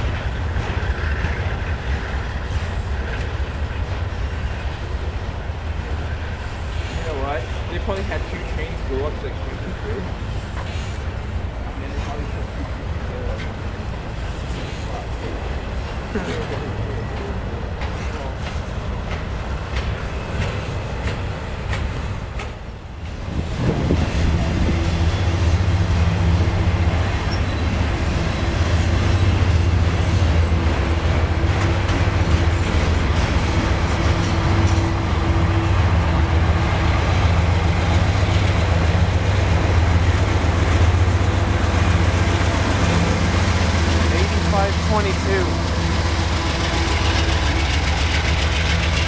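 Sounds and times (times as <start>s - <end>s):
diesel locomotive engine drone: 0.0s - 49.0s
train wheels clattering over rail joints: 0.0s - 49.0s.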